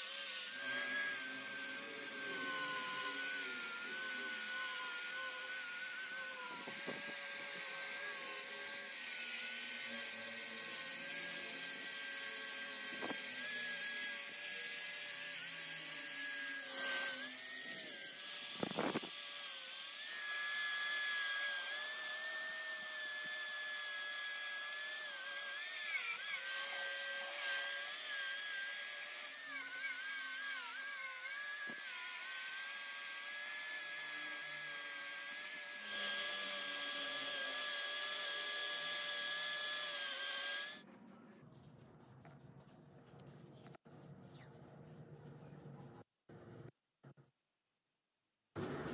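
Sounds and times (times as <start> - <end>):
electric power tool whining: 0.0 - 40.8.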